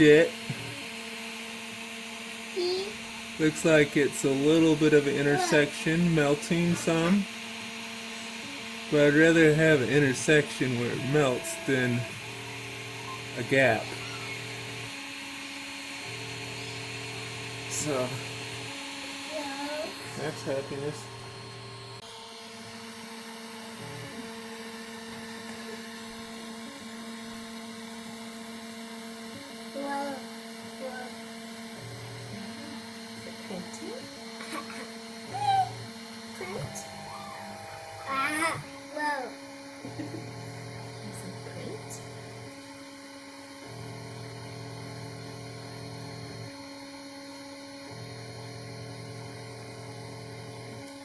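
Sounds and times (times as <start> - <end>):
stepper motors whining: 0.0 - 51.0.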